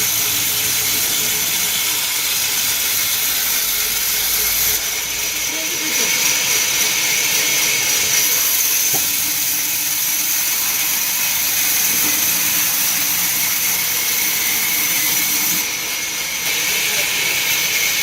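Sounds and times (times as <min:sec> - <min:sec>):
hiss: 0:00.0 - 0:18.0
machine high-pitched whine: 0:00.0 - 0:18.0.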